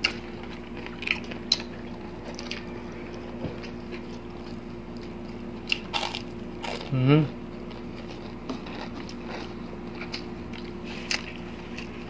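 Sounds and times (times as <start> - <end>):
chewing crispy fried chicken: 0.0 - 12.0
steady low hum: 0.0 - 12.0.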